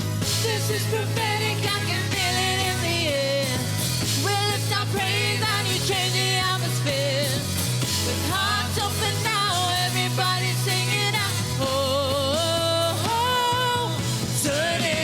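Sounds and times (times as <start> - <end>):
band accompaniment with bass: 0.0 - 15.0
person singing: 0.2 - 15.0.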